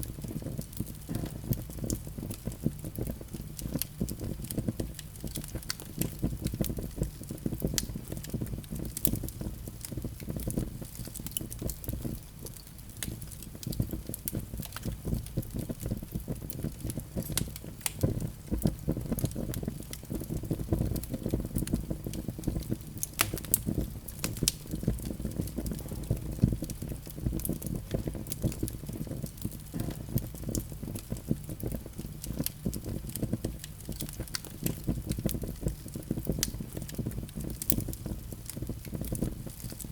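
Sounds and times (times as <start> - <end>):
fire rumbling: 0.0 - 39.9
wood crackling and snapping: 0.5 - 39.9.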